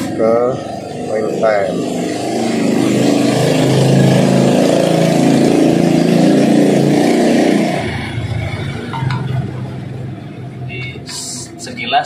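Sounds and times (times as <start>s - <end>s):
motor running loudly: 0.0s - 9.8s.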